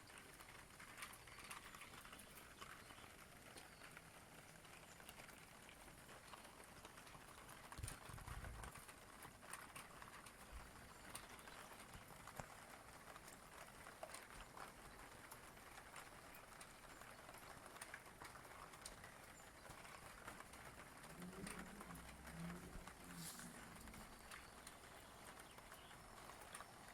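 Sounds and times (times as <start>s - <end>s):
faint rain hiss: 0.0s - 26.9s.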